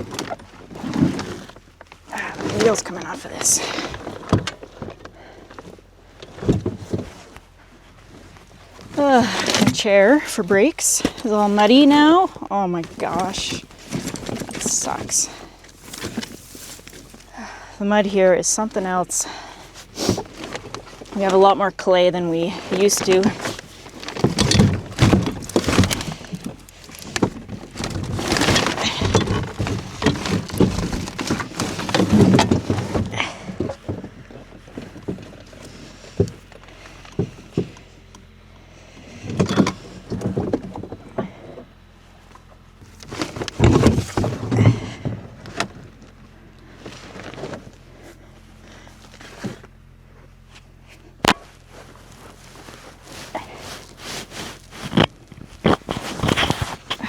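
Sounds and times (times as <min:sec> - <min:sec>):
heavy gear and logs thudding: 0:00.0 - 0:57.0.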